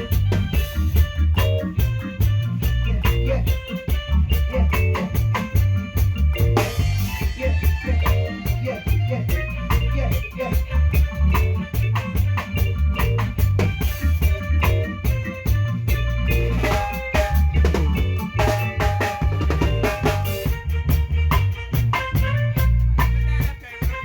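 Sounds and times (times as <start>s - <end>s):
bass drum and snare hits: 0.0s - 23.5s
heavy bass line: 0.0s - 24.0s
held instrument notes: 0.0s - 24.0s.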